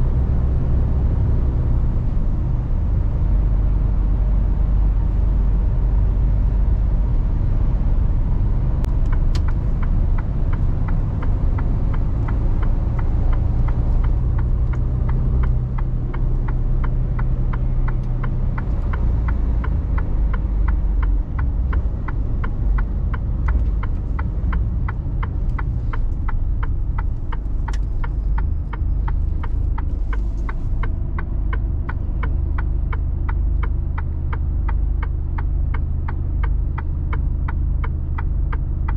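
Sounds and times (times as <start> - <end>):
truck diesel engine running: 0.0 - 38.9
turn signal ticking: 6.0 - 38.9.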